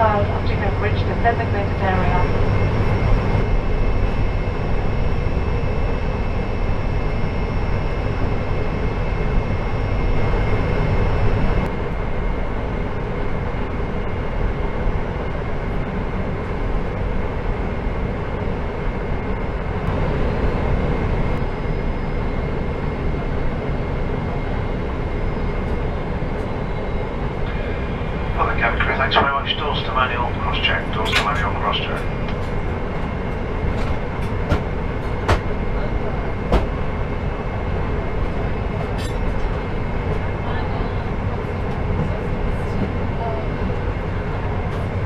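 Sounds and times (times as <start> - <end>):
airplane cabin rumble and hiss: 0.0 - 45.0
high engine whine: 0.0 - 45.0.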